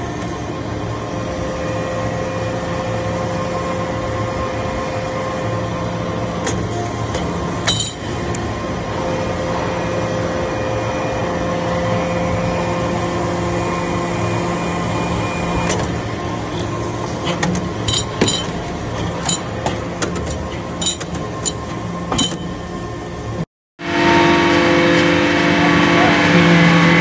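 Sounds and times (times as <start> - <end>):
hydraulic press humming: 0.0 - 27.0.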